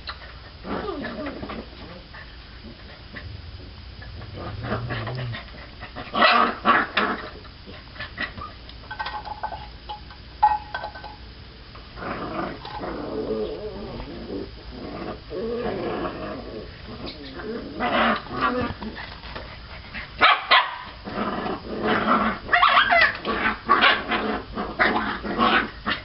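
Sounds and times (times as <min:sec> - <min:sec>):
puppies growling and snarling: 0:00.1 - 0:08.4, 0:12.0 - 0:20.2, 0:20.8 - 0:26.0.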